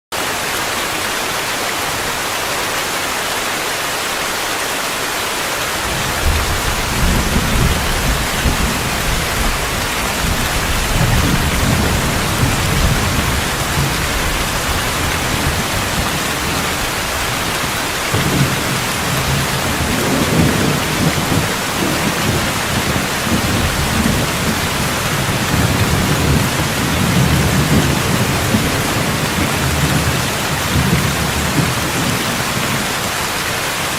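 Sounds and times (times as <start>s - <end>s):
heavy rain hissing: 0.2s - 33.9s
rolling thunder rumble: 5.8s - 33.1s.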